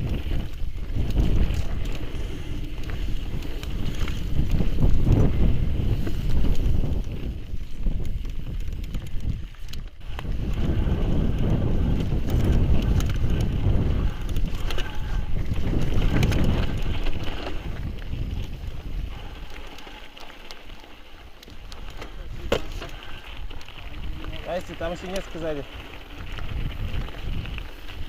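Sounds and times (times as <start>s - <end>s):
tyres rumbling on rocky ground: 0.0s - 9.4s, 10.0s - 28.0s
bike clicks and rattles: 0.0s - 28.0s
wind buffeting microphone: 0.0s - 28.0s.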